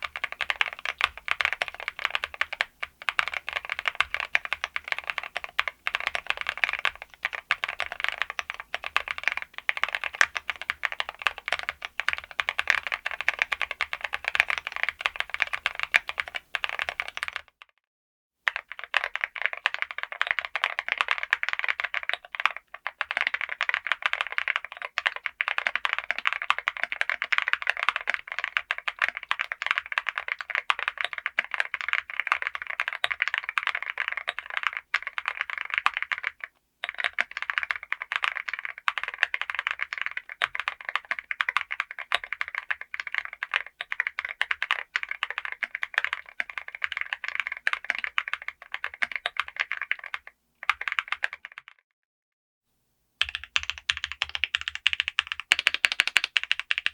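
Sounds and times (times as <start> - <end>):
fast keyboard typing clicks: 0.0 - 17.6, 18.5 - 51.8, 53.2 - 56.9.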